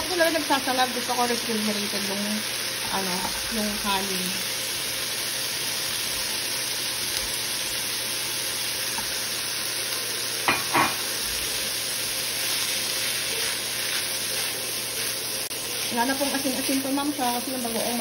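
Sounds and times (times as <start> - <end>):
rice sizzling in hot oil: 0.0 - 18.0.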